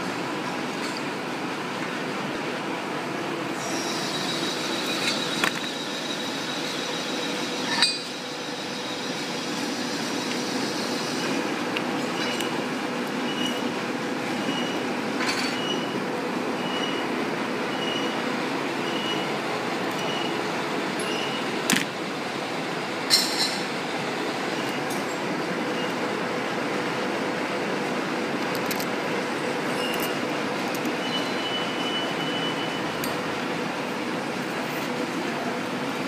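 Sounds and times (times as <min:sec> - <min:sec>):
machinery noise: 0:03.3 - 0:36.0.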